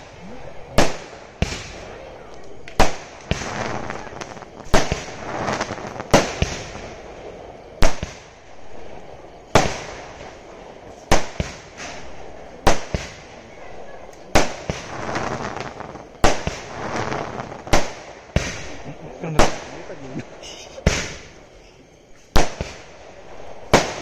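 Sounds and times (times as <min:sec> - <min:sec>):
fireworks bangs: 0:00.0 - 0:21.5, 0:22.3 - 0:24.0
fireworks crackling: 0:00.0 - 0:24.0.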